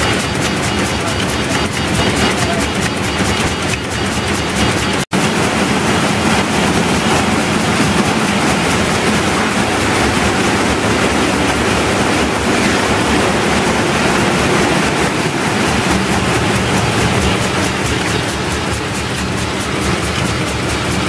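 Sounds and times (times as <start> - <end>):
printing press clattering and ticking: 0.0 - 21.0.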